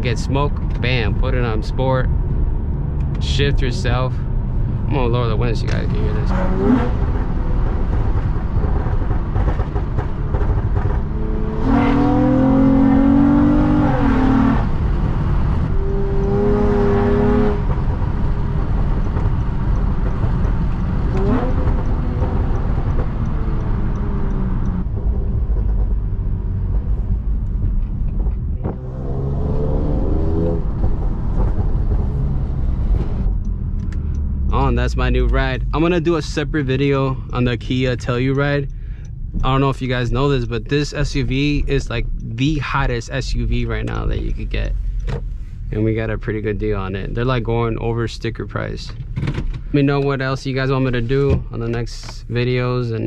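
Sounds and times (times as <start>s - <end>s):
car engine accelerating hard: 0.0s - 52.6s
road and wind noise: 0.0s - 53.0s.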